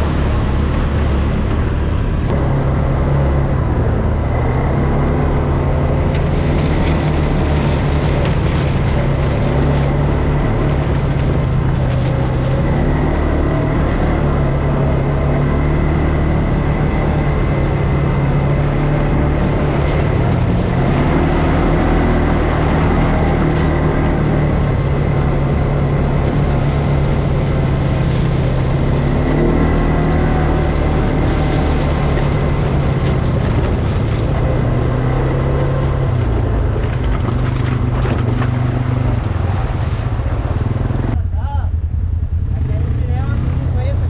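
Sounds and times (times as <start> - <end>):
atv engine revving: 0.0 - 44.0.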